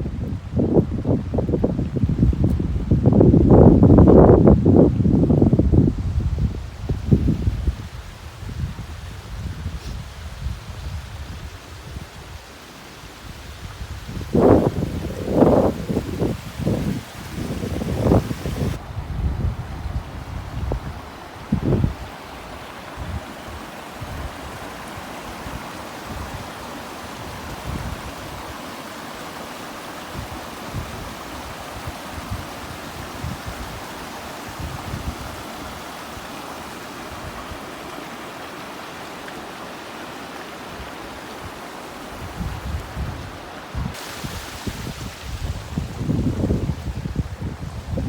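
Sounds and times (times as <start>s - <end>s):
wind buffeting microphone: 0.0s - 12.4s, 13.2s - 28.5s, 30.1s - 35.8s, 42.1s - 48.0s
strong wind blowing: 0.0s - 12.5s, 13.2s - 28.6s, 29.9s - 37.7s, 42.1s - 48.0s.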